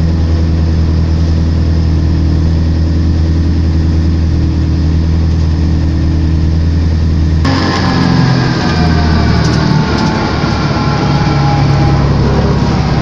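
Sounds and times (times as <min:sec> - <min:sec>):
race car engine idling: 0:00.0 - 0:13.0.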